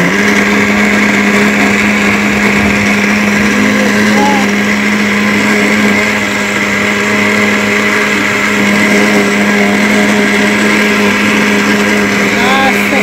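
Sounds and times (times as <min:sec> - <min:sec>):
electric blender running: 0:00.0 - 0:13.0.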